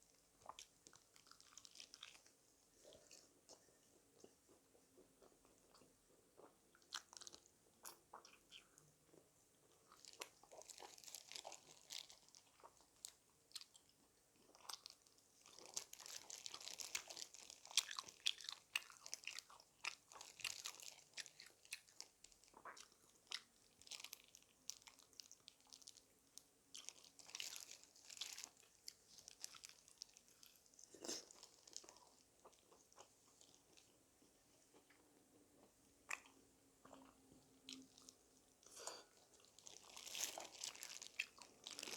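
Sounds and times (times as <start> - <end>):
crunching and chewing fried chicken: 0.0 - 41.9.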